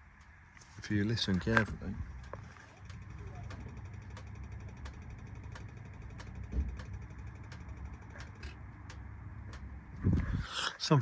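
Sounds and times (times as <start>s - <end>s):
car engine idling: 0.0s - 10.3s
light engine tick: 0.2s - 9.8s.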